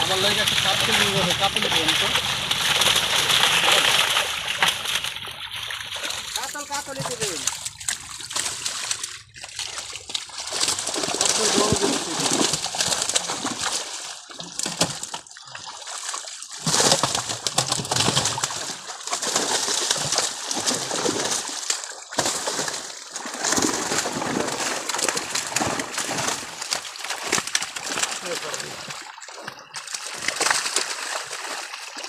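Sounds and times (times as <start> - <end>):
fish splashing in shallow water: 0.0 - 32.0.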